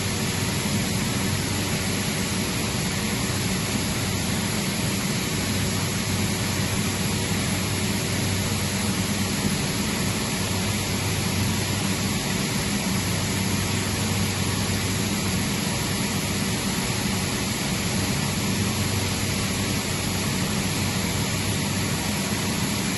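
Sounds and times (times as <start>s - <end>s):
air compressor running: 0.0s - 22.9s.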